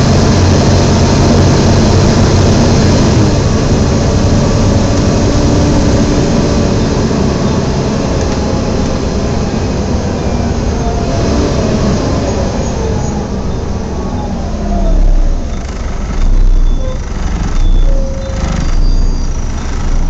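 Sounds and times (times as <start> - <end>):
bus engine running: 0.0 - 20.0
cooling fan drone: 0.0 - 20.0.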